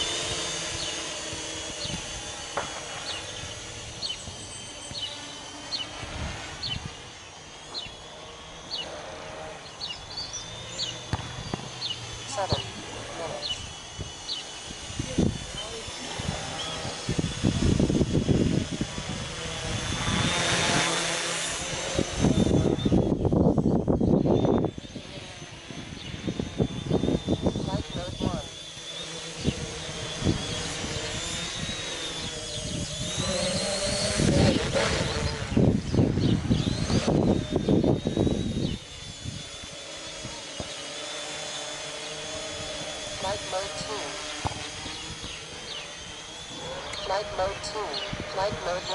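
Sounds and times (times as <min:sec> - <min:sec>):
low wind buffeting: 0:00.0 - 0:48.8
quadcopter propellers buzzing: 0:00.0 - 0:48.9.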